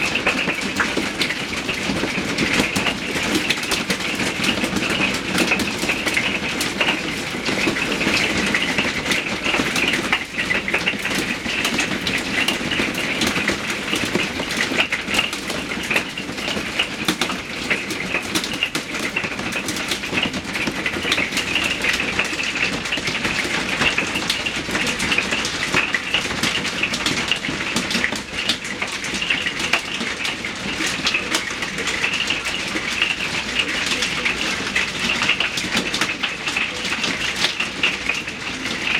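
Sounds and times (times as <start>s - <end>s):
hail clattering: 0.0s - 38.9s.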